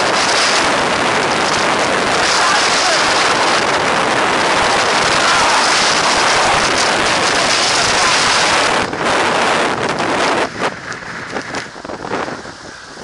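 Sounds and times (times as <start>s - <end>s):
wind roaring over microphone: 0.0s - 13.0s.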